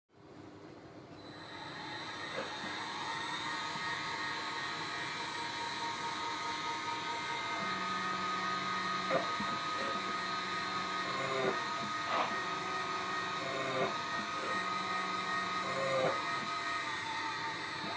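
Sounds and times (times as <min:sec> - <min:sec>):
machine motor whine: 0:01.2 - 0:17.9.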